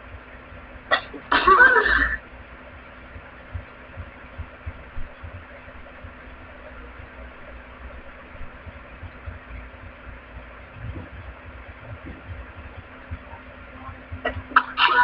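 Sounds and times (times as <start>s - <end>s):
soft low thumps and rumbles: 0.0s - 14.8s
faint low hum: 0.0s - 15.0s
steady background hiss: 0.0s - 15.0s.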